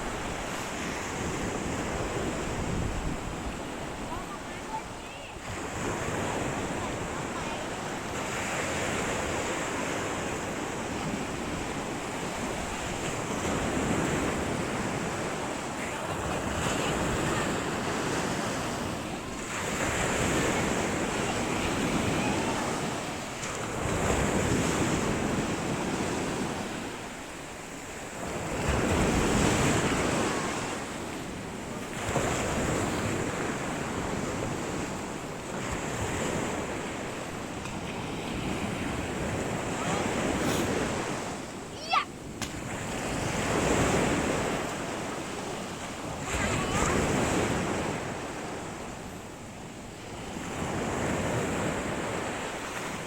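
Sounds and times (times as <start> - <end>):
sea waves washing on beach: 0.0 - 53.0
wind buffeting microphone: 0.0 - 53.0.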